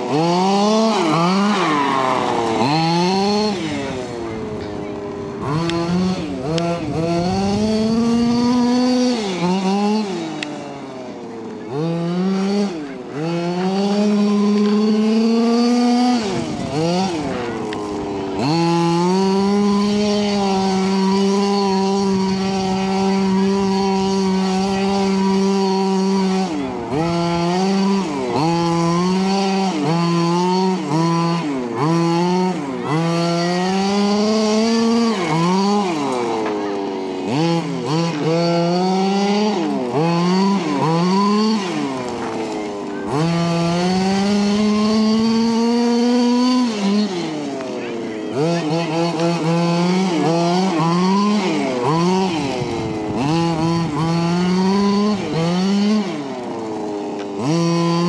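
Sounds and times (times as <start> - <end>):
small two-stroke engine revving: 0.0 - 58.0.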